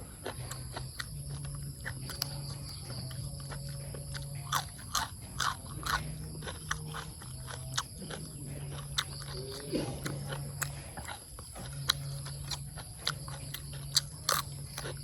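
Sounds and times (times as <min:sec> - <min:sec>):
person chewing and smacking: 0:00.0 - 0:15.0.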